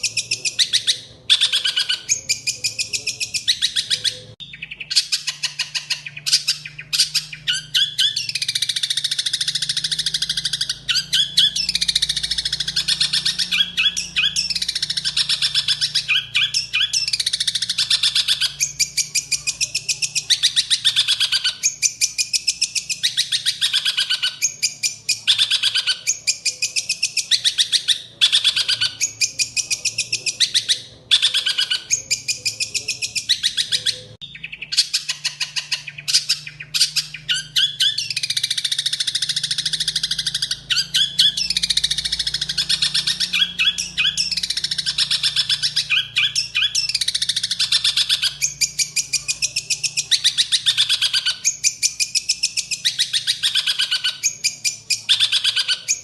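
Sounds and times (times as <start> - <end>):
songbird chattering trills: 0.0 - 56.0.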